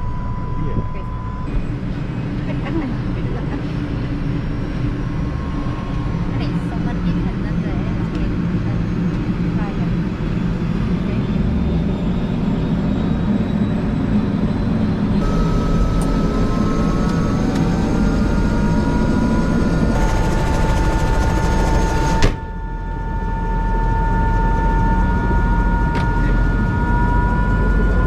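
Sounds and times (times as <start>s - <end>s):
helicopter turbine and rotor: 0.0s - 28.0s.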